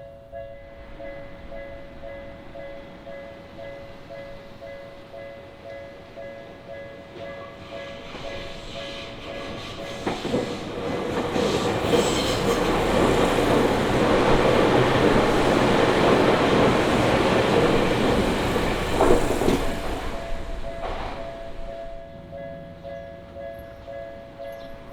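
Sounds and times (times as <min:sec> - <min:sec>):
crossing warning bell ringing: 0:00.0 - 0:10.4, 0:11.1 - 0:24.9
train rumble and wheel noise: 0:00.0 - 0:24.9.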